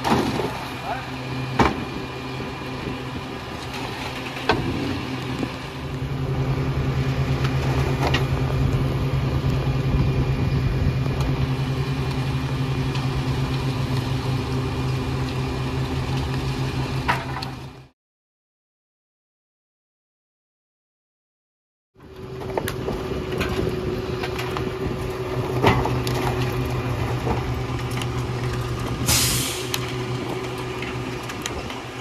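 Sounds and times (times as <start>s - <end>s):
garbage truck diesel engine: 0.0s - 17.9s, 22.0s - 32.0s.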